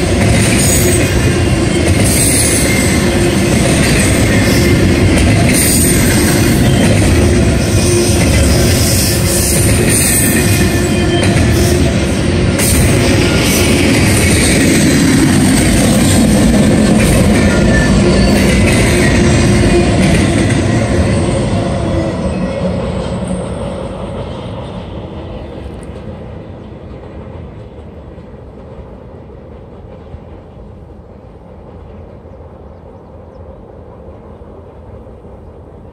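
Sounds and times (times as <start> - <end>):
freight train rolling: 0.0 - 35.9.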